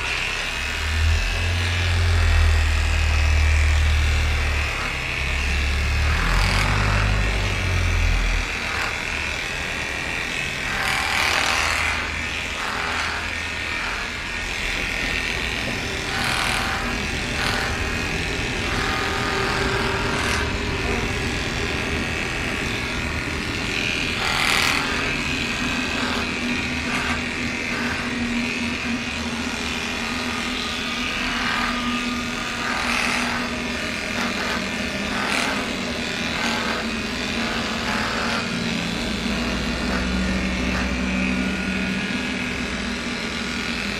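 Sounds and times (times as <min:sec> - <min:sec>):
clippers rasping: 0:00.0 - 0:43.9
electric clippers humming: 0:00.0 - 0:43.9.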